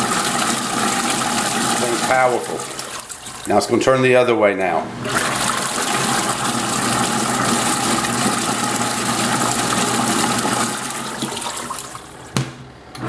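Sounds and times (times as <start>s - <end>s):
water sloshing in washing machine: 0.0s - 4.0s, 5.0s - 12.3s.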